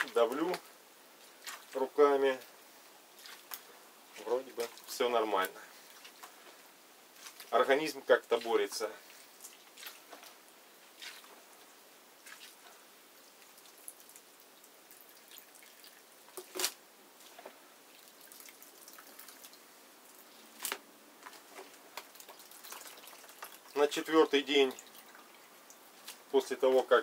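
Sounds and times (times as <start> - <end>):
juice dripping: 3.2 - 26.4
grapes squishing: 3.2 - 27.0.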